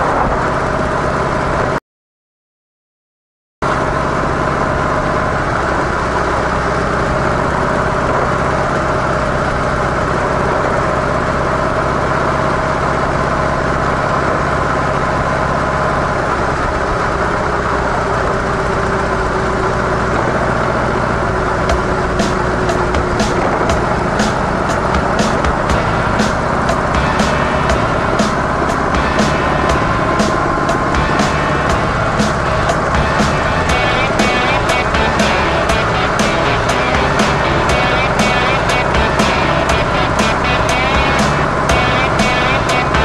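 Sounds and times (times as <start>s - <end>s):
road and wind noise: 0.0s - 1.8s, 3.7s - 43.0s
motorcycle engine running: 3.7s - 43.0s.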